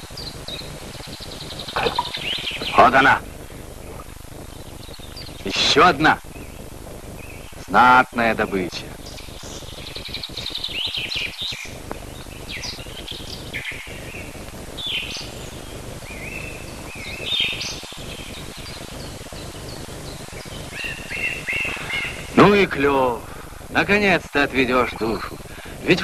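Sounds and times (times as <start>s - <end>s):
songbirds singing: 0.0s - 26.0s
steady hiss: 0.0s - 26.0s.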